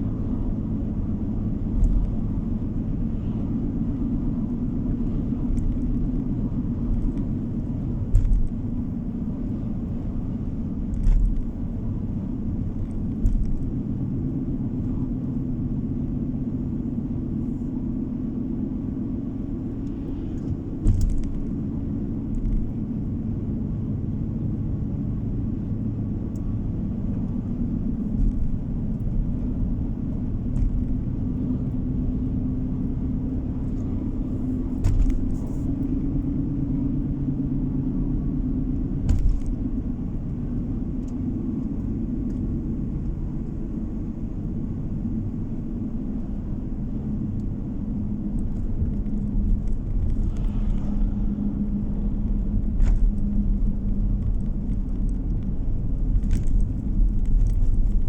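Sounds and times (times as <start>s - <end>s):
car road rumble inside cabin: 0.0s - 58.0s.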